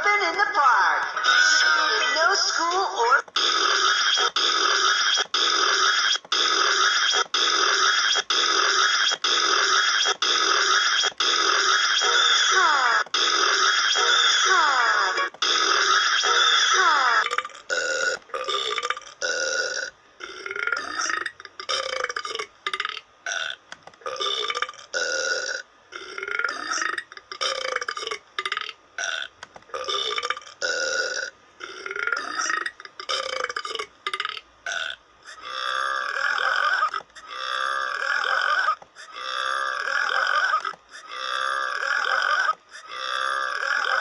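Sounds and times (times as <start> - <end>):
cartoon belching: 3.4 - 44.0.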